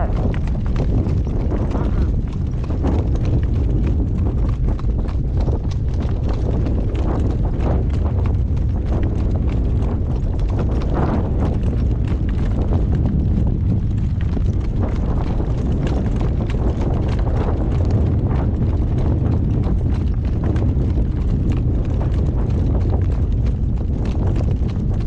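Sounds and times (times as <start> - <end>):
horse hooves clip-clopping: 0.0 - 25.0
steady low rumble: 0.0 - 25.0.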